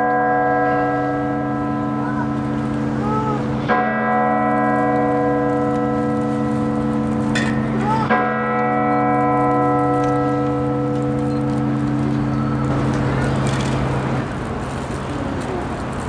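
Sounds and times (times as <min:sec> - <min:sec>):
large bell tolling: 0:00.0 - 0:14.4.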